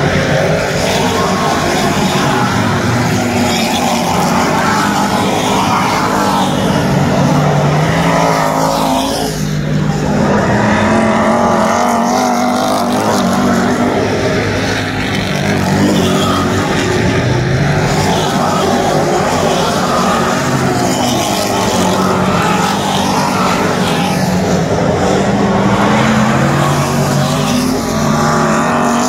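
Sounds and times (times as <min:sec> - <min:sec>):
race car engines passing by: 0:00.0 - 0:29.0.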